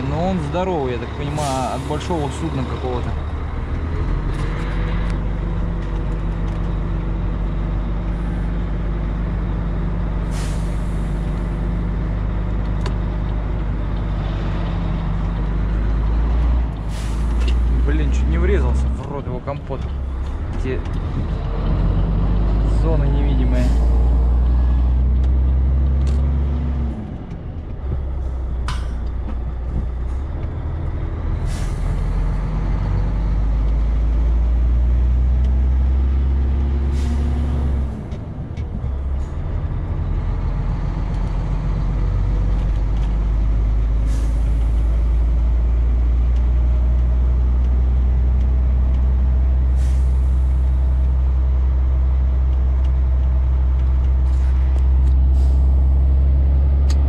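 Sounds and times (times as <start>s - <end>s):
truck diesel engine humming: 0.0s - 57.0s.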